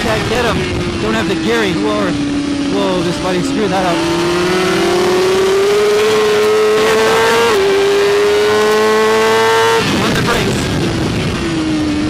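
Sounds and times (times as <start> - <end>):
motorcycle engine at full throttle: 0.0 - 12.0.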